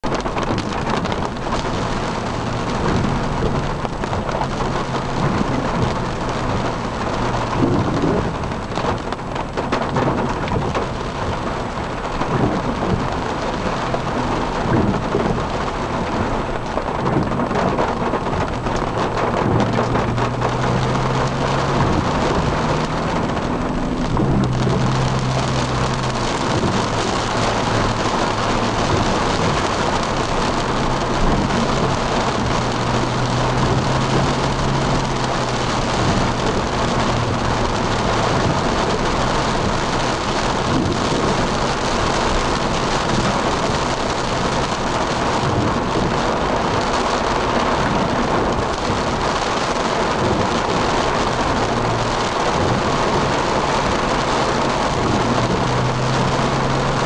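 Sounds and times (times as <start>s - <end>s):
heavy rain on car roof: 0.0s - 57.0s
low engine hum: 0.0s - 57.0s.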